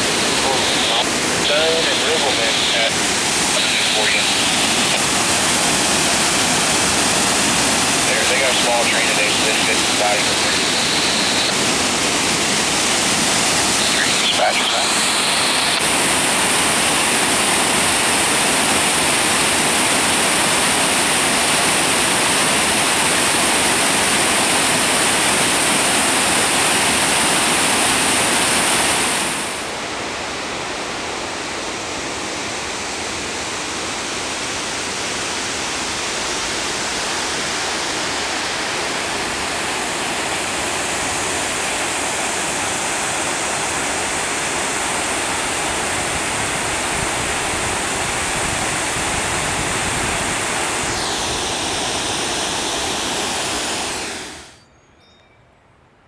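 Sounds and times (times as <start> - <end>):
water rushing over dam spillway: 0.0 - 54.5.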